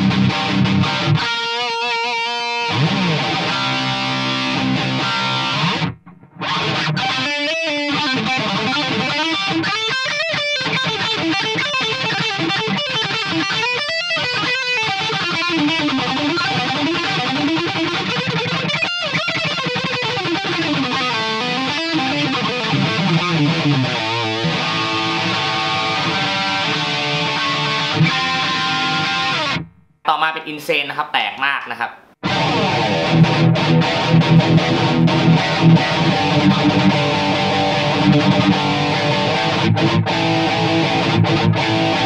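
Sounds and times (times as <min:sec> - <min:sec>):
distorted electric guitar riffs: 0:00.0 - 0:30.0, 0:31.8 - 0:42.0.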